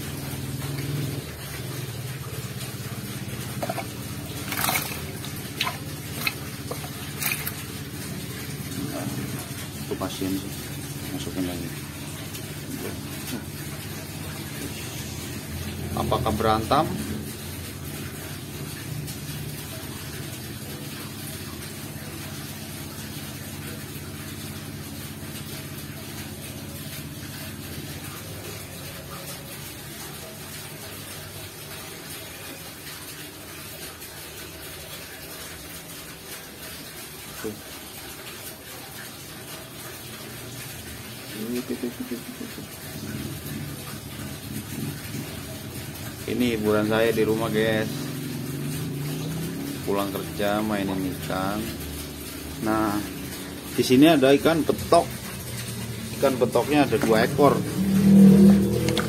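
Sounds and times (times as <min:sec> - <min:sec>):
water splashing in basin: 0:00.0 - 0:59.0.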